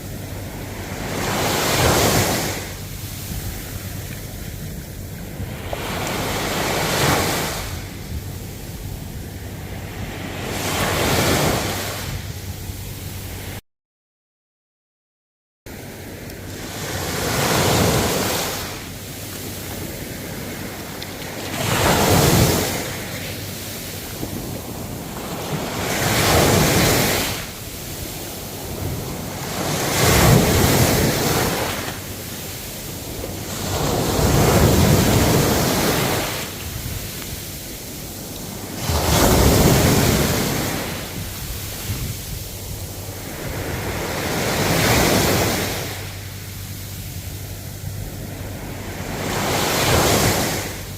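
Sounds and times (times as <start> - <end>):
ocean waves breaking on shore: 0.0 - 13.6, 15.7 - 50.9.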